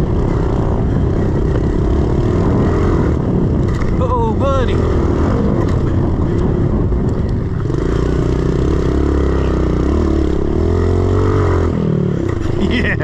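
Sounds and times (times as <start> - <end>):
pit bike engine under throttle: 0.0 - 13.0.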